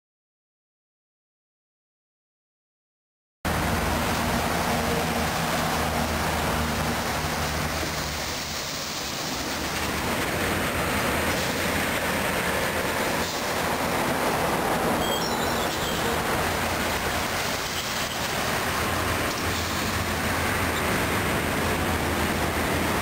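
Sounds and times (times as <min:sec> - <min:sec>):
highway traffic rushing: 0:03.5 - 0:23.0.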